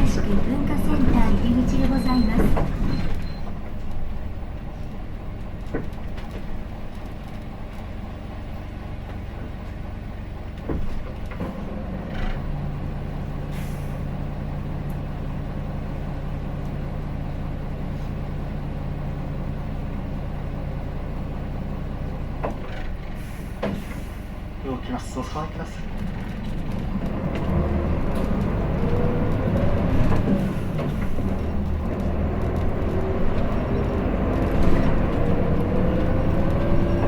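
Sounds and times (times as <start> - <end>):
bus diesel engine idling: 0.0 - 37.0.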